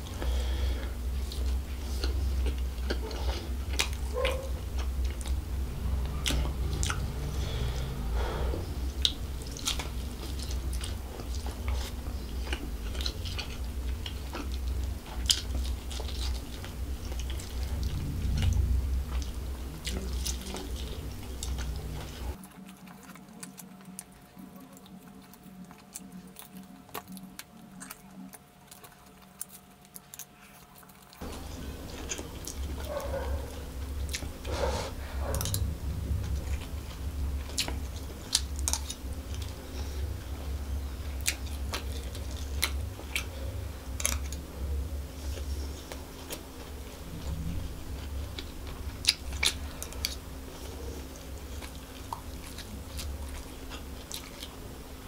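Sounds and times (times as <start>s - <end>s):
chewing fried food: 0.0s - 55.0s.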